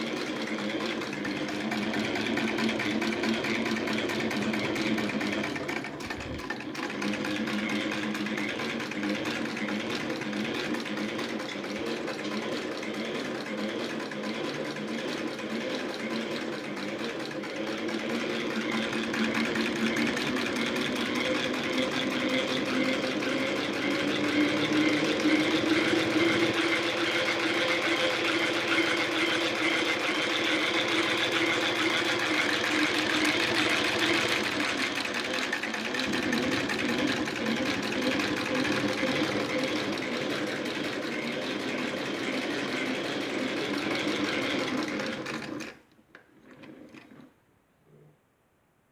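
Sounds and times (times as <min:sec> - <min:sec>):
sewing machine running: 0:00.0 - 0:45.8.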